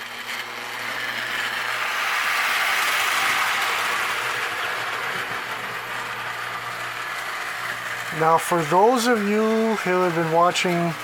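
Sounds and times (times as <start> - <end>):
toy train motor whirring: 0.0 - 11.0
wheels rolling on rails: 0.0 - 11.0.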